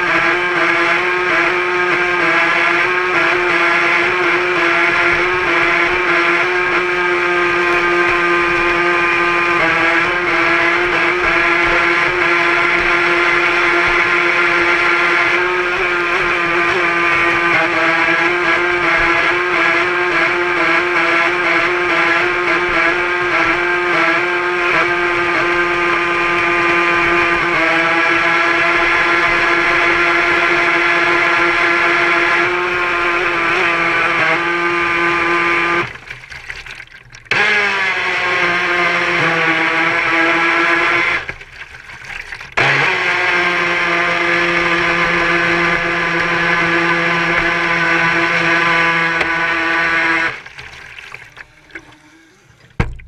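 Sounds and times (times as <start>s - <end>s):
model boat motor buzzing: 0.0s - 53.0s.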